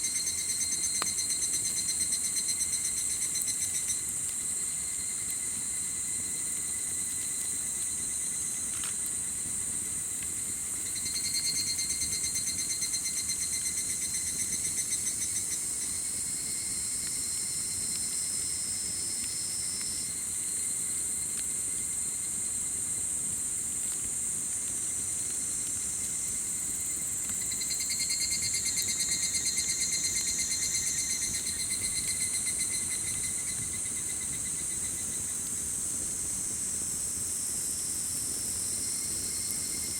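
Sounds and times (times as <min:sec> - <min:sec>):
pulsing insect trill: 0:00.0 - 0:22.2, 0:25.5 - 0:35.7, 0:38.5 - 0:39.9
crickets and insects chirping: 0:00.0 - 0:39.9.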